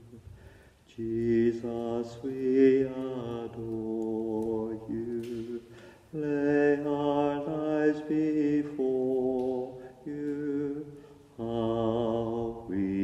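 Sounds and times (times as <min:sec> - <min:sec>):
person singing a chant-like hymn: 0:00.0 - 0:13.0.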